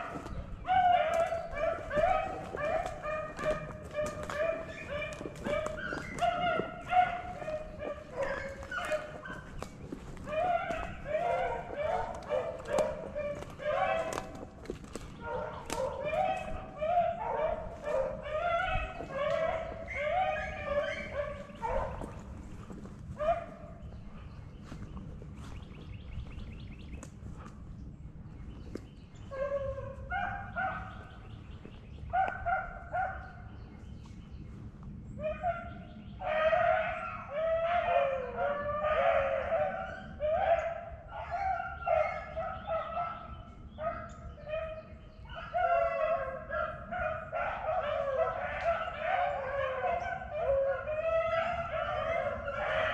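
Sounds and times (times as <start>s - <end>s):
dogs yipping: 0.0s - 25.6s, 28.6s - 33.5s, 35.2s - 52.9s
beagles baying: 0.0s - 27.8s, 28.5s - 33.7s, 35.1s - 52.9s.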